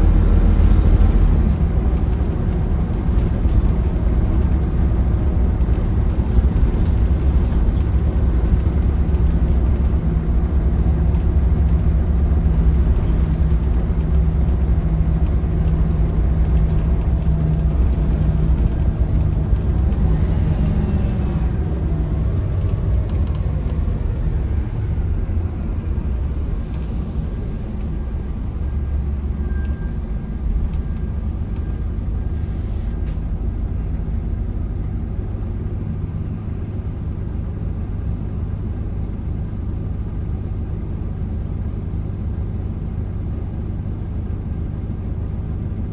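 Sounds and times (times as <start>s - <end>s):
bus diesel engine running: 0.0s - 45.9s
road rumble: 0.0s - 45.9s.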